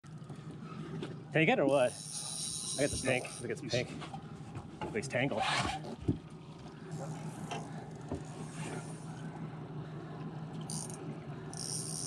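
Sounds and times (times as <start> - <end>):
outboard motor idling: 0.0 - 5.0, 5.8 - 12.0.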